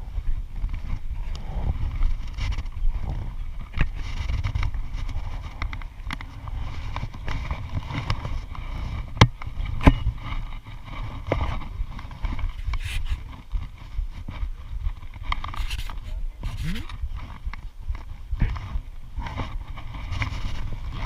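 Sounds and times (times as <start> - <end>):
low microphone rumble: 0.0 - 21.0.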